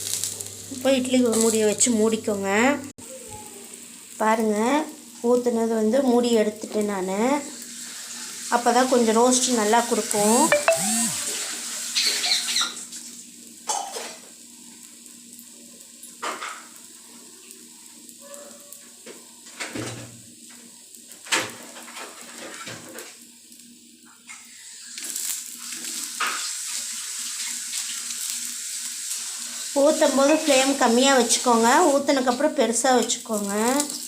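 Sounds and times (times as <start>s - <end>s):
batter sizzling on a griddle: 0.0s - 10.5s, 11.2s - 34.0s.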